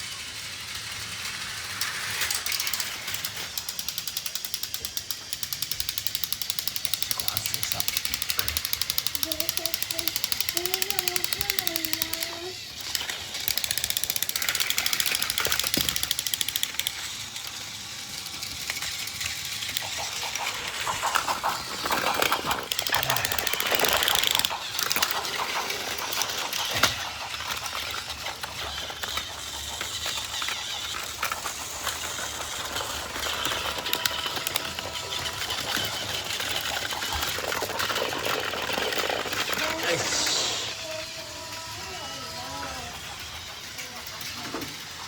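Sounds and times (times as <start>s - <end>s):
toy train rattling on track: 0.0s - 45.0s.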